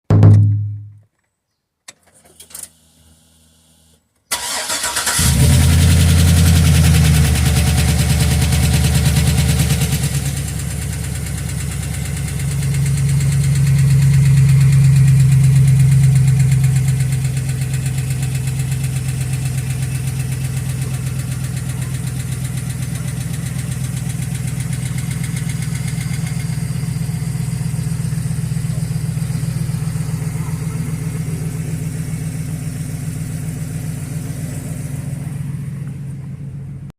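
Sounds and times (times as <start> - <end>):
car engine idling: 4.3 - 36.9.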